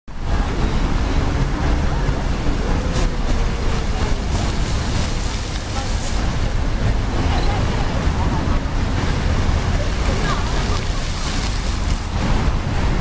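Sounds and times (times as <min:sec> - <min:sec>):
fountain water splashing: 0:00.2 - 0:13.0.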